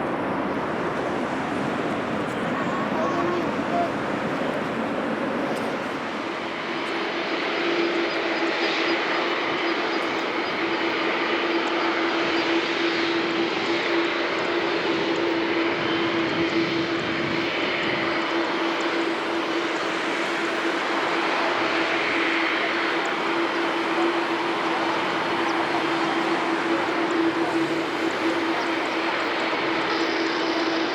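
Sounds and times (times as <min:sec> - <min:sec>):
jet engines rushing and humming: 0:00.0 - 0:30.9.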